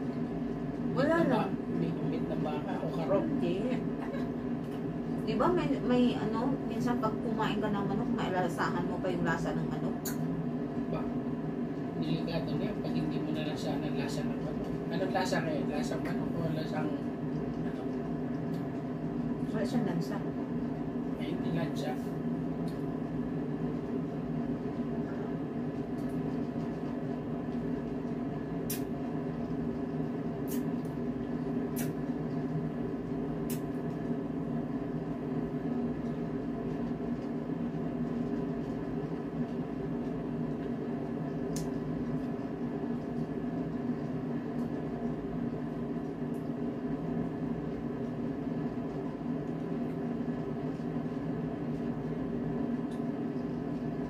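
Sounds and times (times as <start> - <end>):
appliance humming: 0.0 - 54.0.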